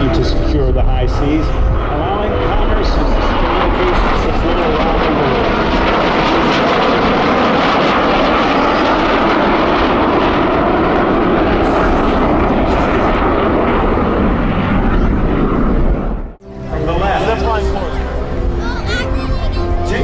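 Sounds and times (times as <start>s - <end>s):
fighter jet engine roar: 0.0s - 20.0s.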